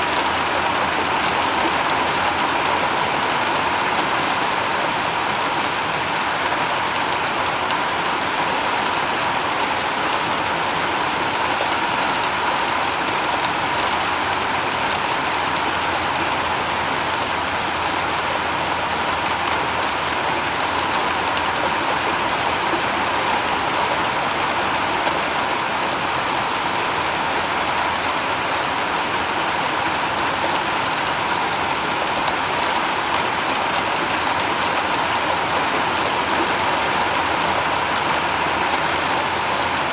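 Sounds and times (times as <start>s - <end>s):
rain on a shingle roof: 0.0s - 39.9s.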